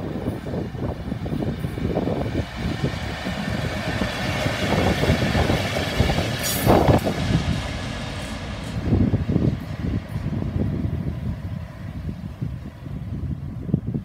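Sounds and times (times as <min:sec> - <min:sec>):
wheels clattering on rails: 0:00.0 - 0:13.9
locomotive engine rumble: 0:00.0 - 0:14.0.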